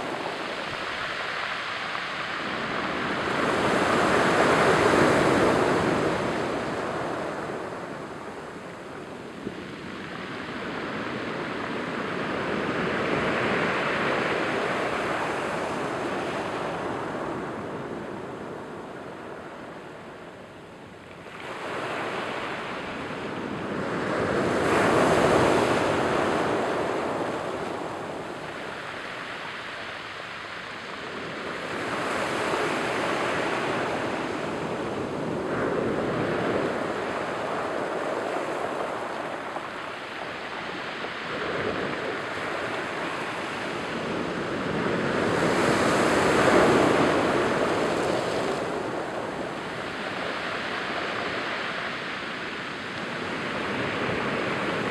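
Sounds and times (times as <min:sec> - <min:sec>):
surf washing over pebble beach: 0:00.0 - 0:19.6, 0:21.3 - 0:54.9.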